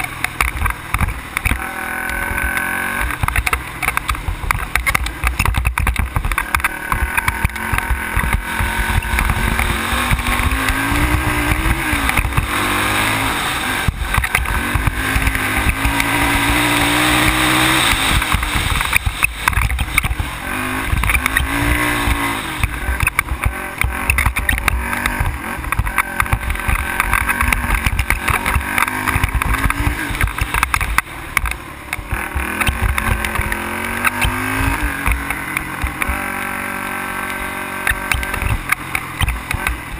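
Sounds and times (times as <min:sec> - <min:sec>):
quad engine revving: 0:00.0 - 0:39.9
knocks and rattles: 0:02.4 - 0:39.9.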